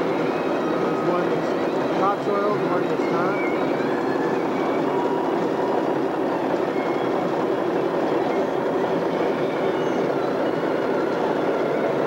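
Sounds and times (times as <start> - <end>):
steel tracks clattering: 0.0 - 12.0
faint squeals: 0.1 - 12.0.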